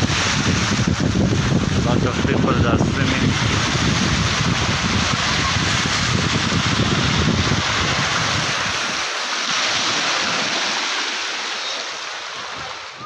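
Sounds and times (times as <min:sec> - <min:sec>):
wind buffeting microphone: 0:00.0 - 0:10.8
small waves breaking on sand: 0:00.0 - 0:13.0.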